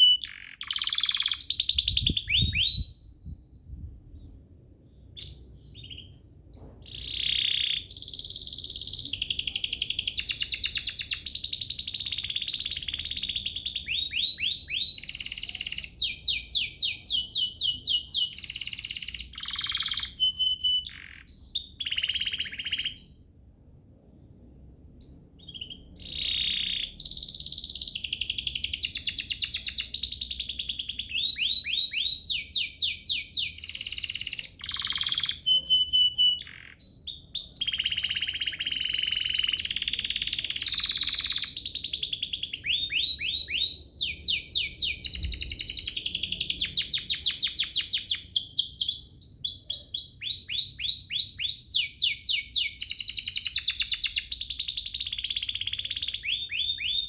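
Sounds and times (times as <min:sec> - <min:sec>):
canary singing: 0:00.0 - 0:03.6, 0:05.1 - 0:23.2, 0:25.0 - 0:57.0.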